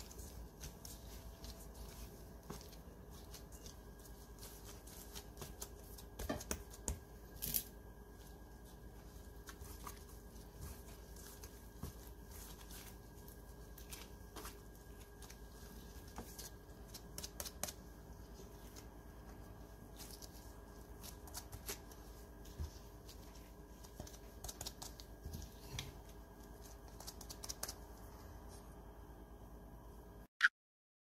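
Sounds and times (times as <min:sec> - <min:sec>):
plastic glove rustling: 0:00.0 - 0:28.8
faint steady hum: 0:00.0 - 0:30.3.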